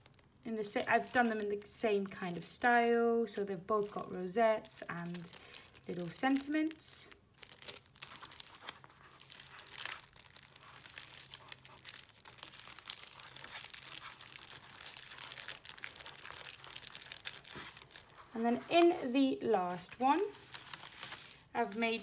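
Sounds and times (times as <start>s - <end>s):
cellophane bags crinkling: 0.0s - 18.4s, 20.1s - 22.0s.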